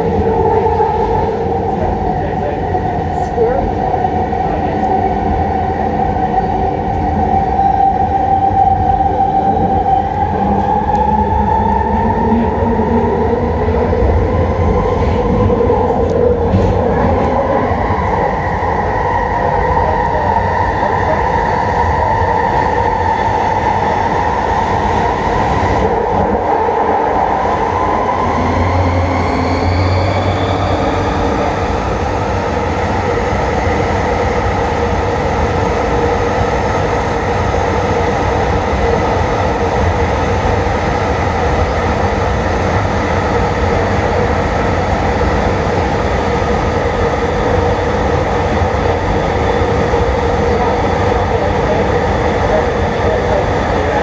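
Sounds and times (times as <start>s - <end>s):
train propulsion whine: 0.0s - 54.0s
wheels rumbling on rails: 0.0s - 54.0s.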